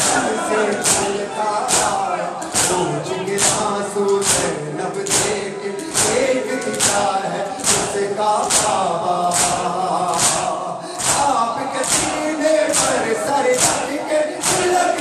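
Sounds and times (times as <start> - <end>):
hands striking chests in unison: 0.0 - 2.8, 3.4 - 15.0
group singing a lament: 0.0 - 15.0.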